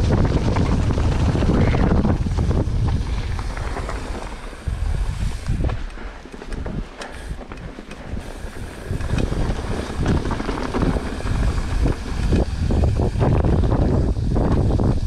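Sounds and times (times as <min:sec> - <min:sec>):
bike rattling over rough ground: 0:00.0 - 0:15.0
wind buffeting microphone: 0:00.0 - 0:15.0.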